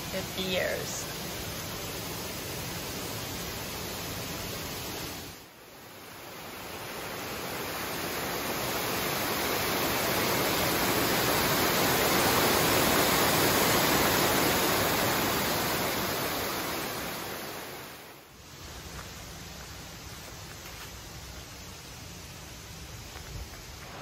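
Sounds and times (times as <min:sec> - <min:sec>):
water rushing down rocky cascade: 0:00.0 - 0:23.0.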